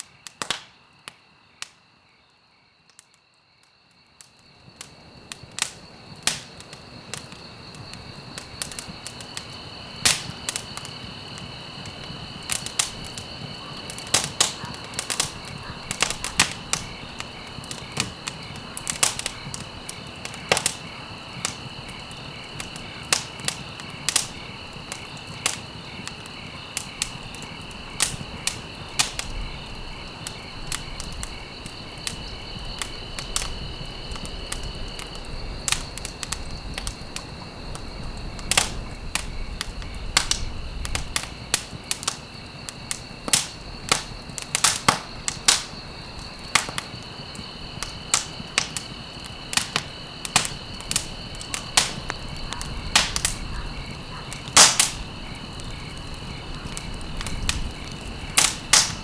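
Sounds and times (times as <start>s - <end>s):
wood fire crackling: 0.0s - 1.9s, 3.9s - 59.0s
low rumble of flame: 4.5s - 59.0s.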